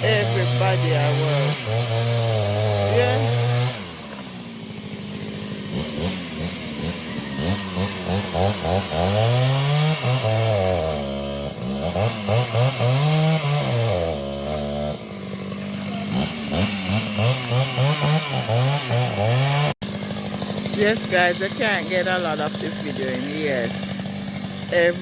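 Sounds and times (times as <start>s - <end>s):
chainsaw engine revving: 0.0s - 25.0s.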